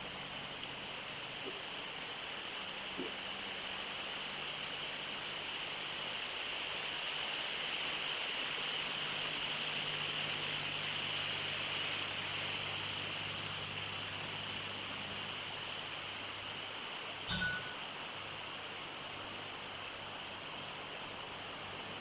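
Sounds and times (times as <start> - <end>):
high-pitched outdoor hiss: 0.0 - 22.0.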